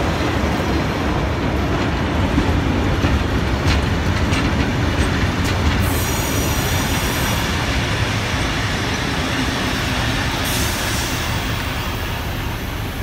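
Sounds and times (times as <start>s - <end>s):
train carriages rumbling on rails: 0.0s - 13.0s.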